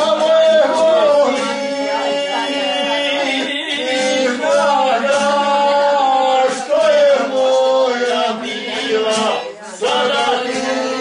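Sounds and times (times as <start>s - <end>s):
men singing folk melody: 0.0s - 11.0s.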